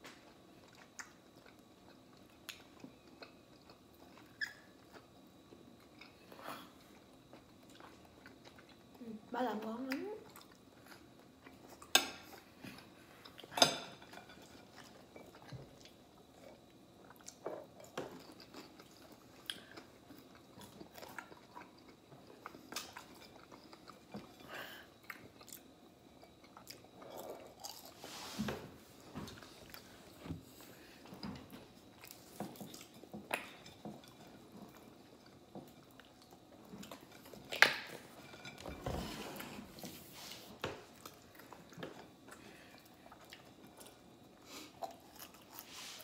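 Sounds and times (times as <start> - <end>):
chewing and crunching food: 0.0 - 46.0.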